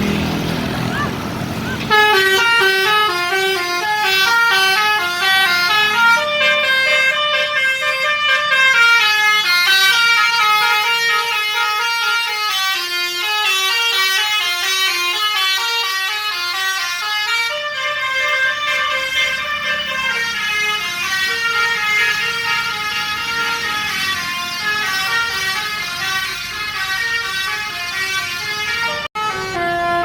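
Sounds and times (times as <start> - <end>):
musical bus horn melody: 1.8 - 30.0.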